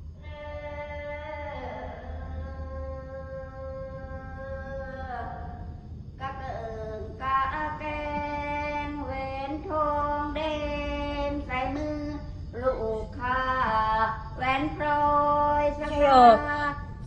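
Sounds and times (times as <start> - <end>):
woman singing unaccompanied: 0.2 - 5.6, 6.2 - 17.0.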